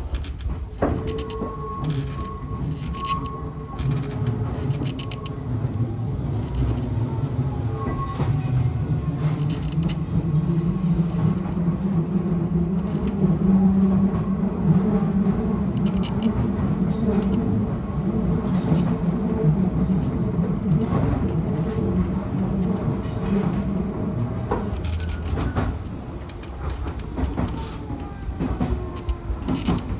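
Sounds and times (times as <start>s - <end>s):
clicks of train wheels: 0.0s - 10.2s, 12.6s - 13.3s, 14.0s - 29.9s
train wheels rumbling: 0.0s - 29.9s.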